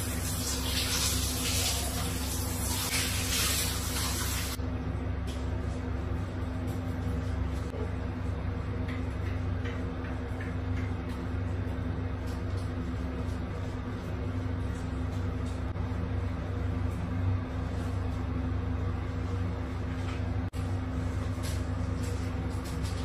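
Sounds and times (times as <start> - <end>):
shower water running: 0.0 - 4.6, 5.3 - 23.0.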